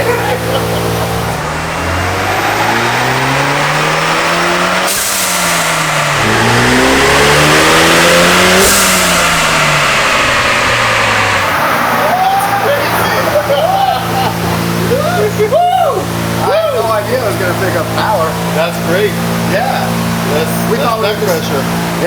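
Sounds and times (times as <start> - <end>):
engine at full throttle: 0.0 - 22.0.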